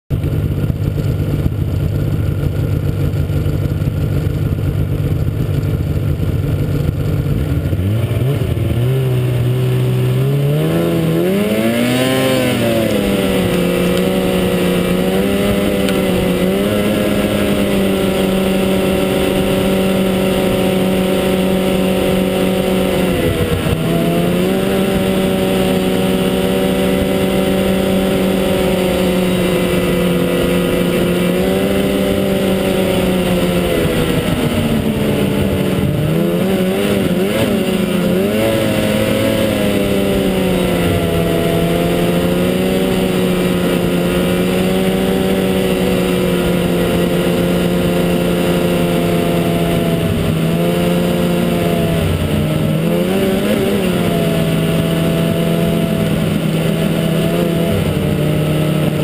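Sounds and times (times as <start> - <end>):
snowmobile engine revving: 0.1 - 59.0.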